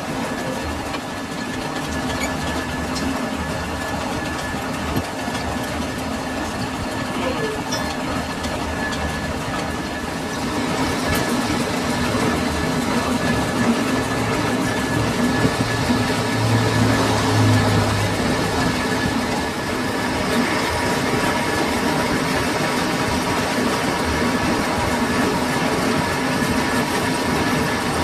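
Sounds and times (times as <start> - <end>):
metal lathe humming: 0.0 - 28.0
thin steady whine: 0.0 - 28.0.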